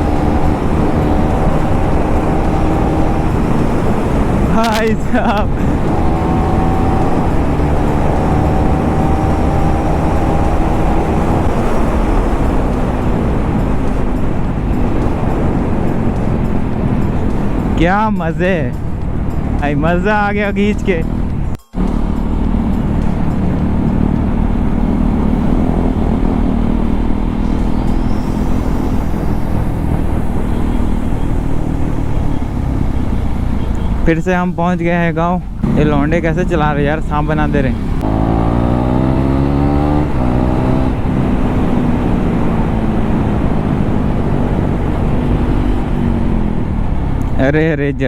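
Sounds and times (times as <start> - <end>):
motorcycle engine running: 0.0 - 34.0, 35.4 - 47.4
heavy wind rumble: 0.0 - 48.0.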